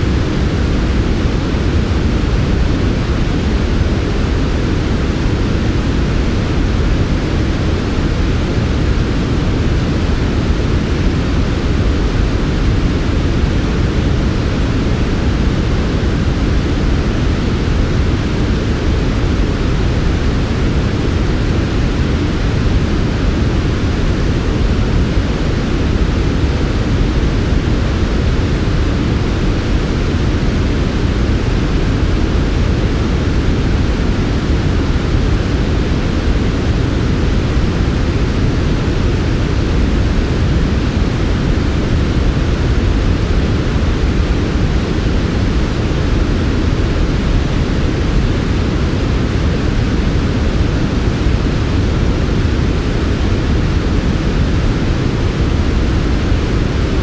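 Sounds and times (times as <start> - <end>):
soft white noise: 0.0 - 57.0.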